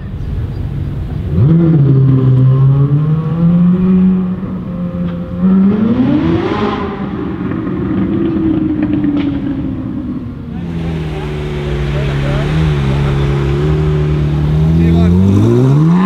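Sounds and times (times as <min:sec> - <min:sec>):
sports car engine revving: 0:01.2 - 0:16.0.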